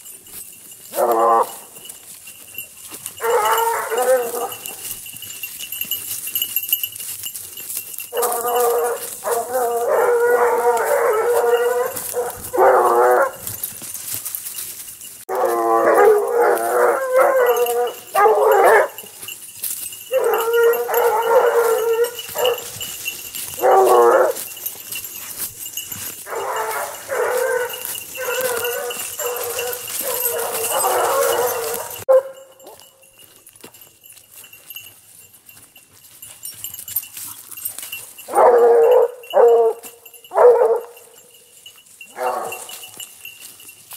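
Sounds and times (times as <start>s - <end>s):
hounds baying: 0.0s - 35.0s, 35.6s - 43.9s.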